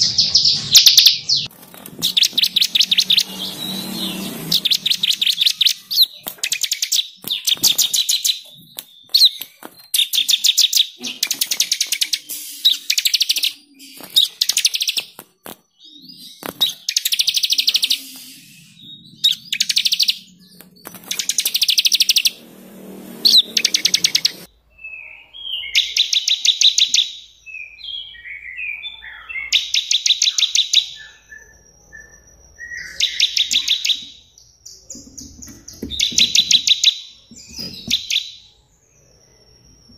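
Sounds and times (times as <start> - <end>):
songbird singing fast trills: 0.0 - 22.4, 23.2 - 39.9
bird chirps: 0.0 - 39.9.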